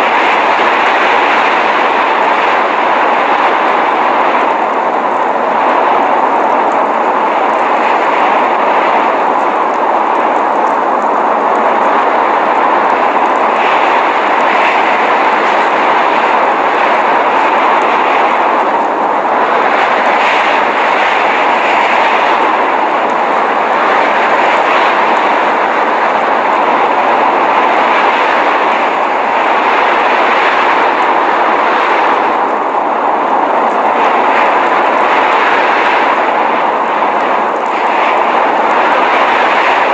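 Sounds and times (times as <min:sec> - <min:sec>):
blizzard wind roaring: 0:00.0 - 0:39.9.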